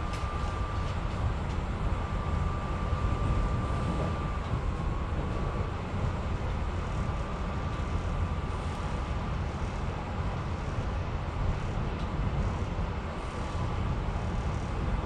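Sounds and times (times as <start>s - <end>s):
faint steady whine: 0.0s - 15.0s
train running rumble: 0.0s - 15.0s.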